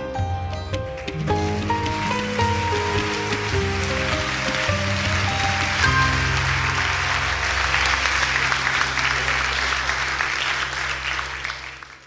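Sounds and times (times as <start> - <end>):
audience applauding: 0.8 - 12.0.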